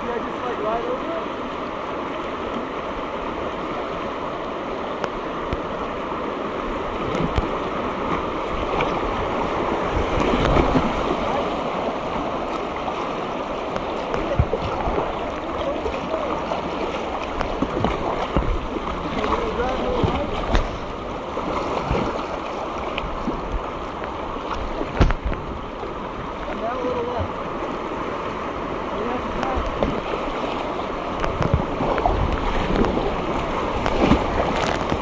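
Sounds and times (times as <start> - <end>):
paddle strokes splashing: 0.0 - 35.0
rushing river whitewater: 0.0 - 35.0.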